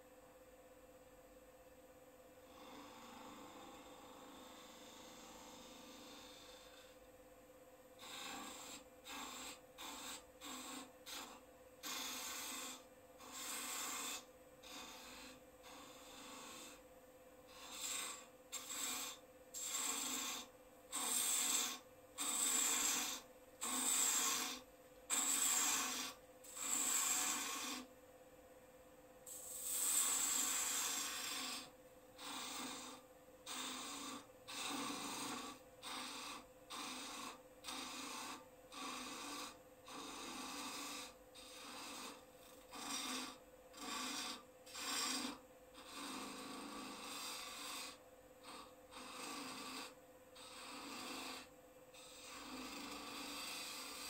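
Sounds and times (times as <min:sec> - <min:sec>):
turning tool rasping on wood: 0:08.0 - 0:16.8, 0:17.5 - 0:27.9, 0:29.3 - 0:54.0.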